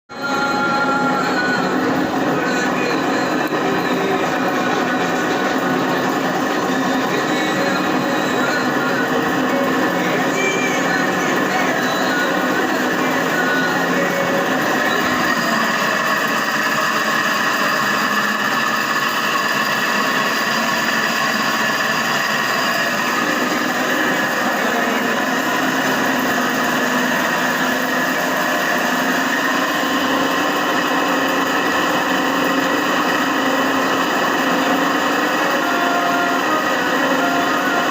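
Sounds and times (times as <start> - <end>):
steady machine noise: 0.1 - 37.9.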